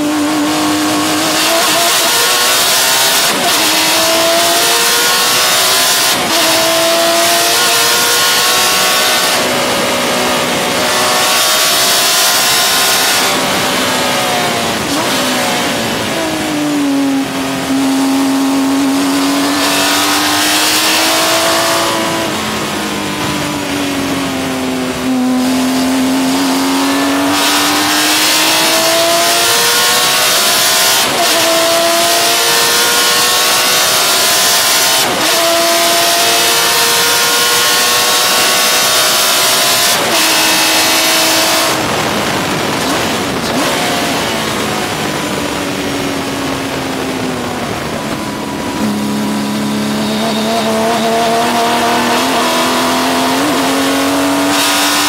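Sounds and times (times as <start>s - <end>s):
race car engine revving through gears: 0.0s - 55.0s.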